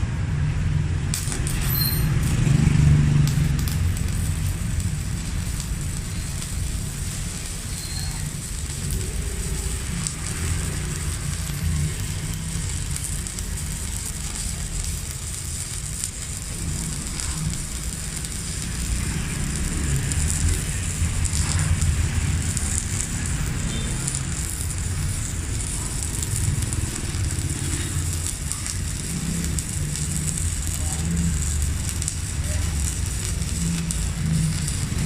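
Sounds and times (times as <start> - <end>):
welding arc crackling: 0.0 - 35.0.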